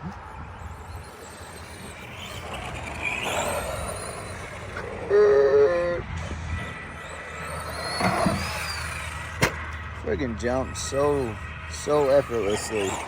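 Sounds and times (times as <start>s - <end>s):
electric motor whining: 0.0s - 13.0s
loud steady pitched tone: 0.0s - 13.0s.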